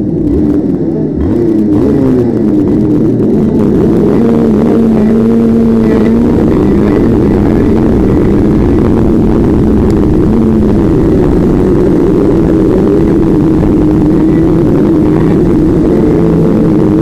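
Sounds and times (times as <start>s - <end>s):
engine running steadily: 0.0s - 17.0s
loud rumbling noise: 0.0s - 17.0s.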